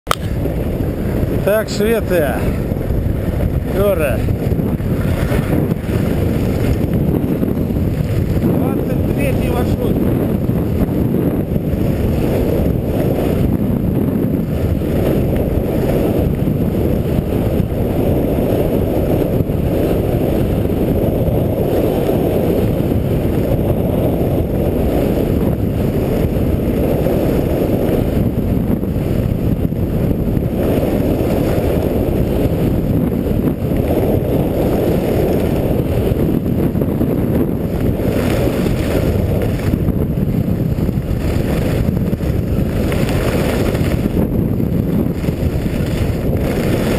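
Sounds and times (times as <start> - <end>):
wind rumble on microphone: 0.0 - 46.9.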